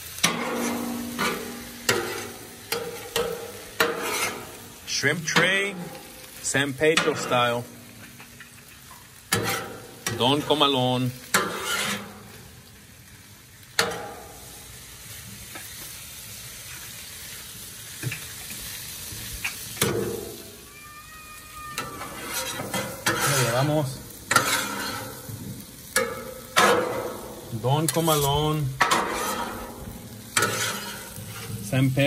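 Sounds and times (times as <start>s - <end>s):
food sizzling on griddle: 0.0s - 32.0s
metal spatula scraping griddle: 0.1s - 12.6s, 13.8s - 14.4s, 19.5s - 32.0s.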